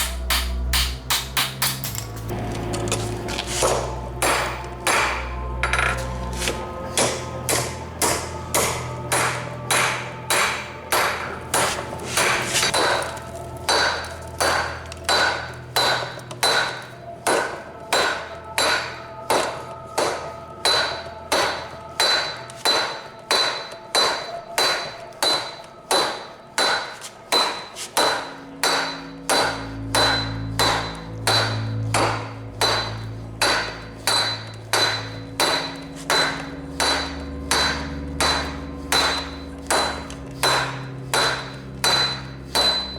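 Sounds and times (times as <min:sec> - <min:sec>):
hammer striking steel on anvil: 0:00.0 - 0:42.9.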